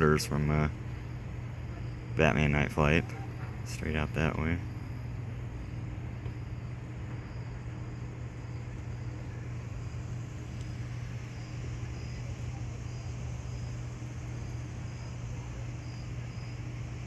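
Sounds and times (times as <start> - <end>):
crickets chirping: 0.0 - 17.0
low hum: 0.0 - 17.0.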